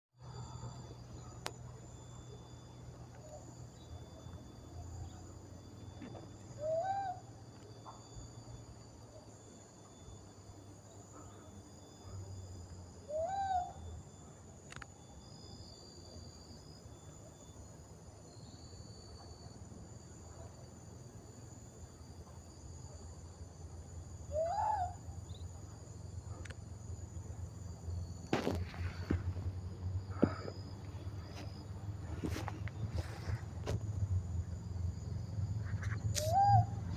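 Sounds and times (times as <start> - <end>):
high drone of insects: 0.2 - 36.9.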